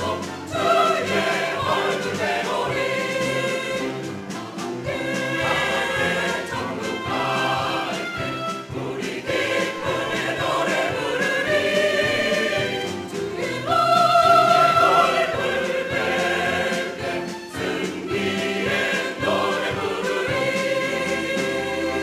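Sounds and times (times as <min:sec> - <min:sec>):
mixed choir singing a hymn: 0:00.0 - 0:22.0.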